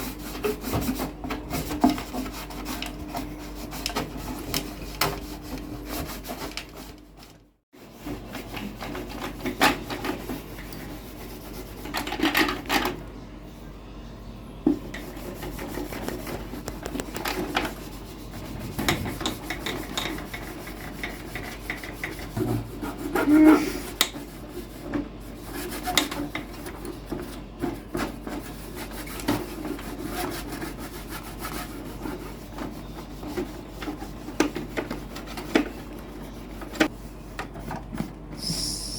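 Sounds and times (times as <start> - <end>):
hand rubbing and scraping plastic: 0.0 - 12.7, 14.9 - 38.9.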